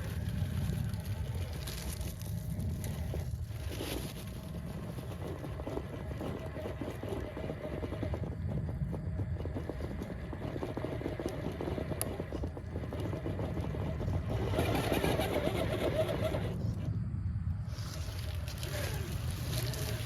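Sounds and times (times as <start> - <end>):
rc car motor whirring: 0.0 - 17.0, 17.7 - 20.0
tires crunching on rock: 0.0 - 20.0.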